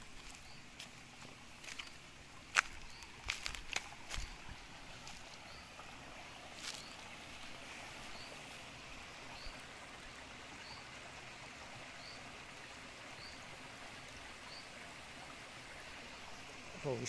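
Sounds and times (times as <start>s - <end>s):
creek trickling over rocks: 0.0s - 17.0s.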